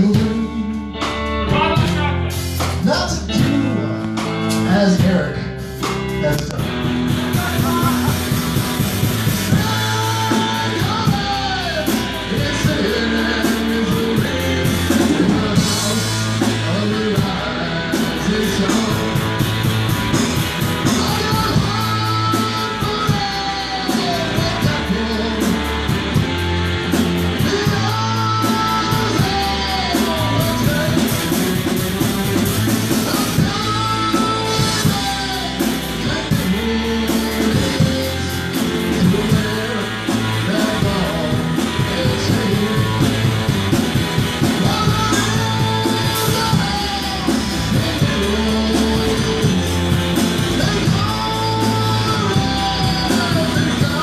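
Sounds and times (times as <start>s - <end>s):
drum kit: 0.0s - 54.0s
electric guitars: 0.0s - 54.0s
repeating bass pattern: 0.0s - 54.0s.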